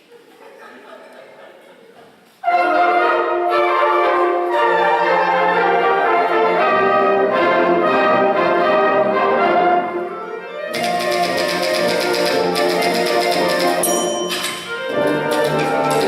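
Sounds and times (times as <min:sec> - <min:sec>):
wind band playing: 0:02.4 - 0:16.0.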